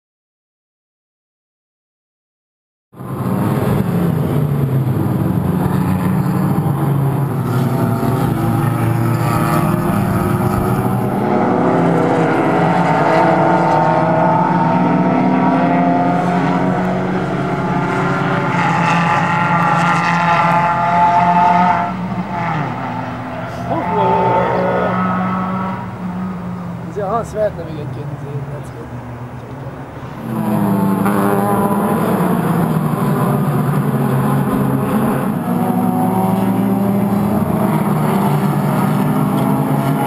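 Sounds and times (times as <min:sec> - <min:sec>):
race car engines: 0:03.0 - 0:40.0.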